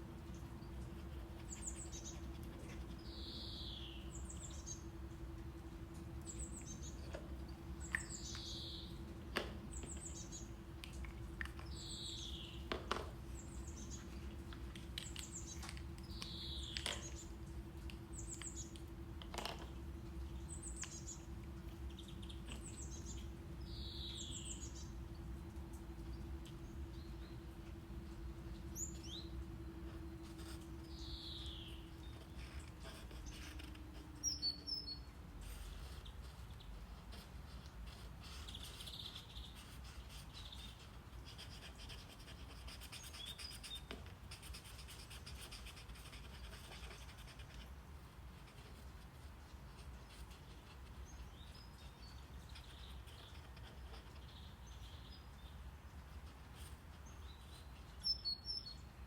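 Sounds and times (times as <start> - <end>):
faint hum: 0.0 - 59.0
low brown noise: 0.0 - 59.0.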